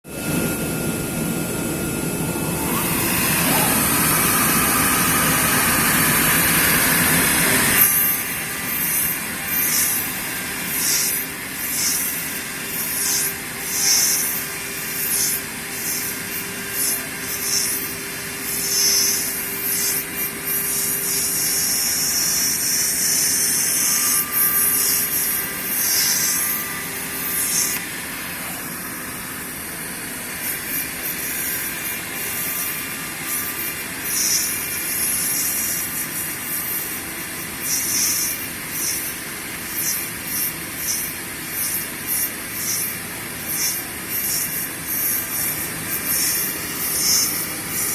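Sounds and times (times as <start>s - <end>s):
router machine hum: 0.1s - 47.9s.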